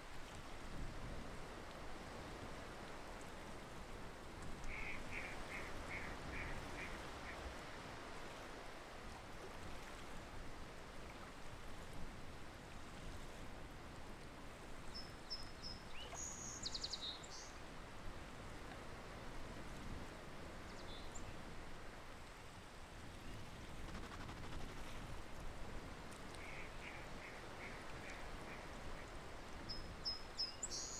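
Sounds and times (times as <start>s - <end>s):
marsh background hiss: 0.0s - 12.7s, 13.4s - 30.9s.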